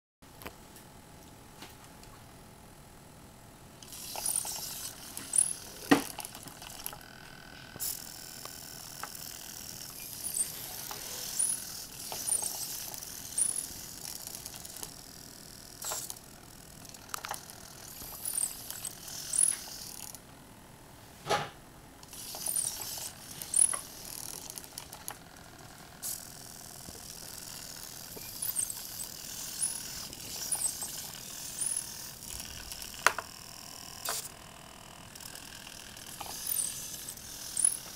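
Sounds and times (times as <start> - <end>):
servomotors whirring: 3.8 - 20.2, 22.0 - 37.9.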